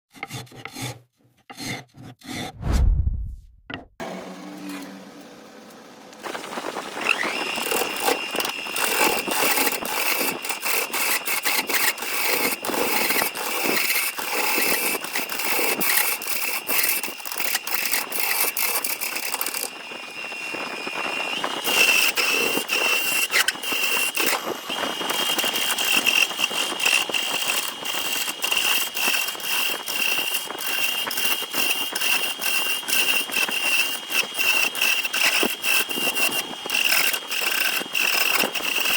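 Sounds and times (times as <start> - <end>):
power tool motor whine: 4.0 - 38.9.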